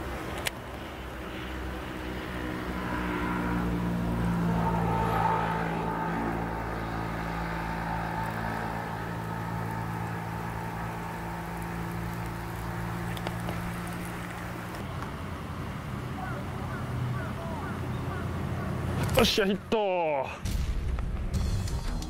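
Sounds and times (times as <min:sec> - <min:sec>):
low engine hum: 0:00.0 - 0:19.2.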